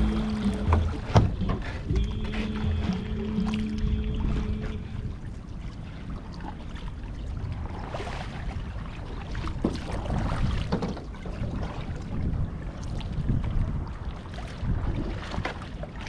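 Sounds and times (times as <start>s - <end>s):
water splashing and rushing: 0.0s - 16.0s
wind rumbling on microphone: 0.0s - 16.0s.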